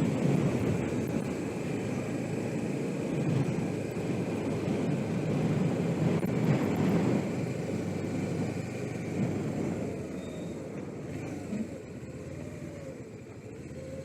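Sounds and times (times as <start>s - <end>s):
wind rushing over microphone: 0.0s - 11.5s
motorcycle engine running: 0.0s - 14.0s.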